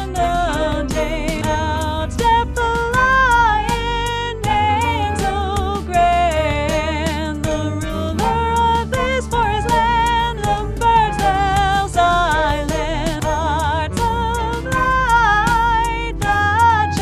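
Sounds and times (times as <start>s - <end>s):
instrumental backing with beat: 0.0s - 17.0s
person singing with vibrato: 0.0s - 17.0s.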